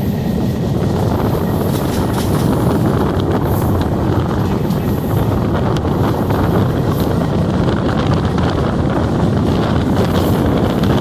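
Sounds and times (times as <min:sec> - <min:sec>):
train wheels rumbling on rails: 0:00.0 - 0:11.0
wind noise on microphone: 0:00.0 - 0:11.0.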